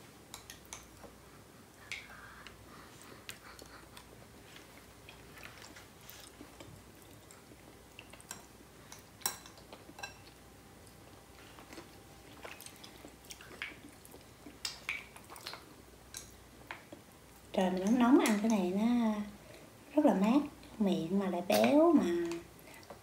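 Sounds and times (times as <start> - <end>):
soft chewing: 0.4 - 18.7, 21.6 - 23.0.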